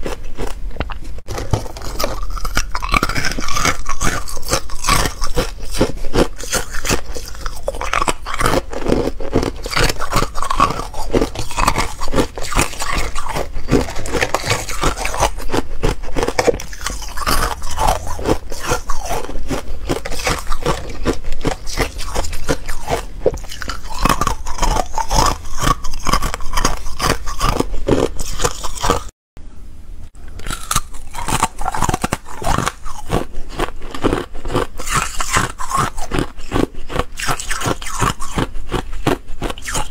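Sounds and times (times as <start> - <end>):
ice being chewed crunching: 0.0 - 29.1, 30.3 - 39.9.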